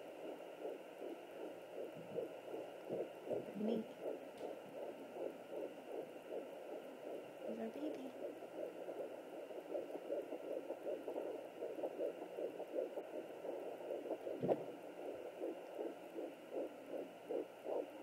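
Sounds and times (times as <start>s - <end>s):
fetal heartbeat on doppler: 0.0s - 18.0s.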